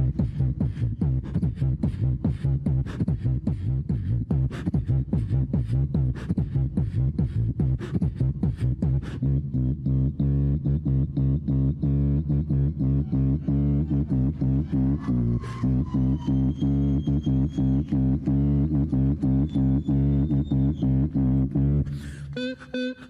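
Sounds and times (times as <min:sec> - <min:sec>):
man beatboxing: 0:00.0 - 0:23.0.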